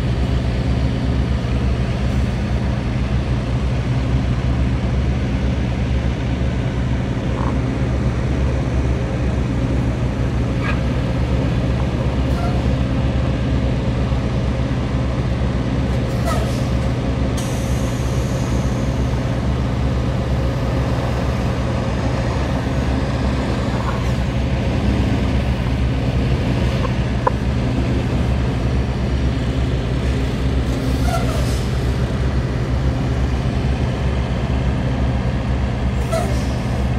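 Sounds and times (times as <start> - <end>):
diesel truck engine rumbling: 0.0 - 36.9.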